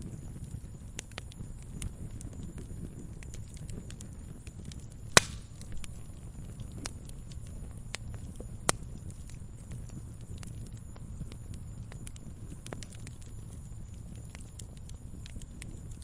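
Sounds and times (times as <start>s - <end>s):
fire crackling: 0.0s - 16.0s
fire flames rumbling: 0.0s - 16.0s
loud pops from fire: 0.0s - 16.0s.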